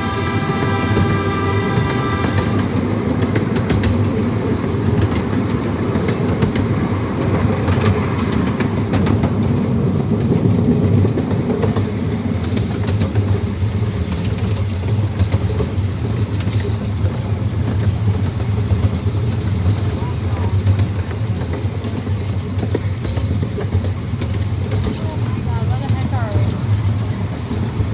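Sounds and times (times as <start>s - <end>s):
miniature train rumbling: 0.0s - 27.9s
wheels clicking over rail joints: 0.3s - 27.9s.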